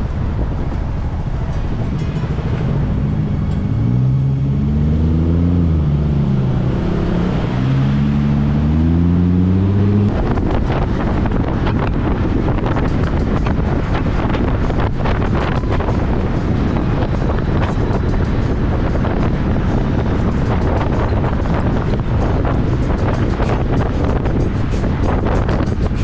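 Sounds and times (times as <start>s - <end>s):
wind buffeting microphone: 0.0s - 26.0s
motorcycle engine accelerating: 1.2s - 26.0s.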